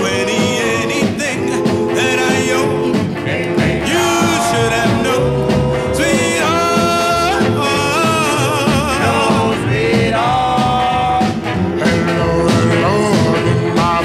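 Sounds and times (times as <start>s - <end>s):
instrumental backing music: 0.0s - 14.0s
person singing: 0.0s - 14.0s.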